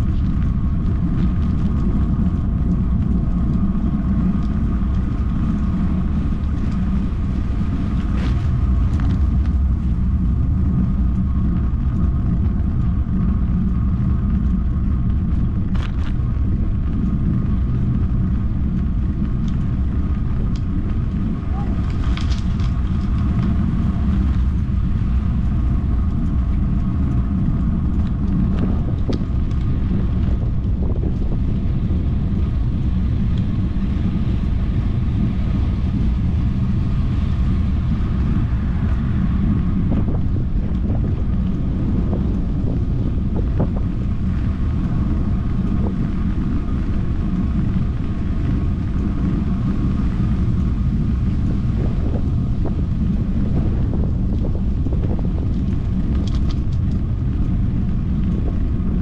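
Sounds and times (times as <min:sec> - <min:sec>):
faint constant whine: 0:00.0 - 0:59.0
wind rushing over microphone: 0:00.0 - 0:59.0.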